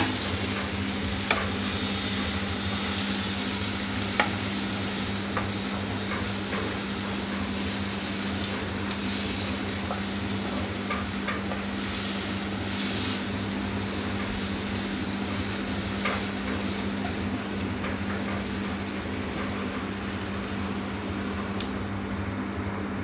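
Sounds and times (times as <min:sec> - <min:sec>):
vegetables frying in a pot: 0:00.0 - 0:23.0.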